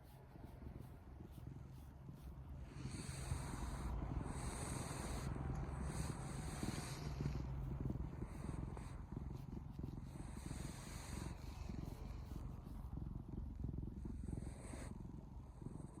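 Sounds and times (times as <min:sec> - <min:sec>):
cat snoring: 0:00.0 - 0:16.0.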